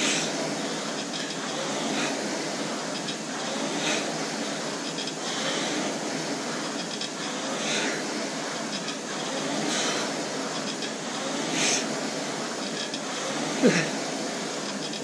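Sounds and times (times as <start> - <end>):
rowing machine flywheel whirring: 0.0 - 15.0.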